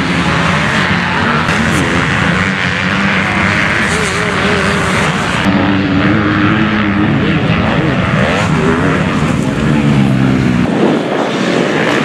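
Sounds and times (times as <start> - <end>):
motocross bike engines: 0.0 - 12.0.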